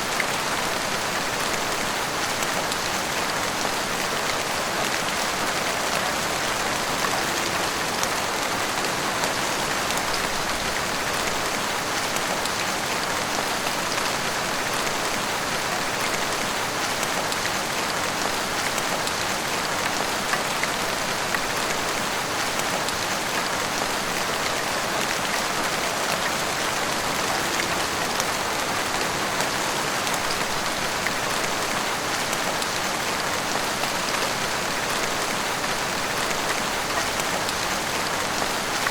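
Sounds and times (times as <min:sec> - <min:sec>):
heavy rain on roofs and street: 0:00.0 - 0:38.9.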